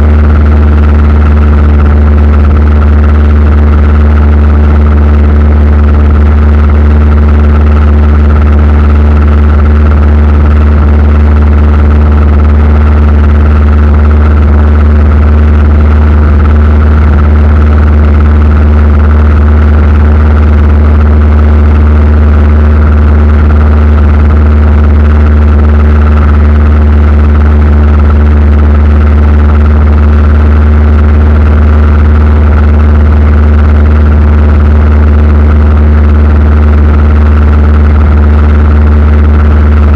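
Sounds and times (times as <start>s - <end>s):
aircraft engine drone in cabin: 0.0s - 39.9s.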